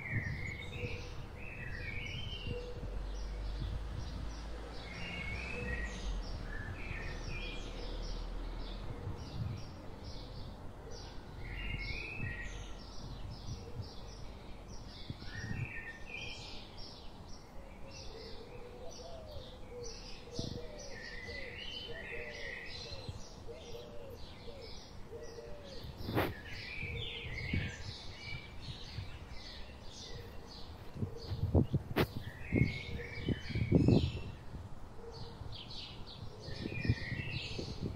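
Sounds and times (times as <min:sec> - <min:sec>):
low wind noise: 0:00.0 - 0:37.9
small birds chirping: 0:00.0 - 0:37.9.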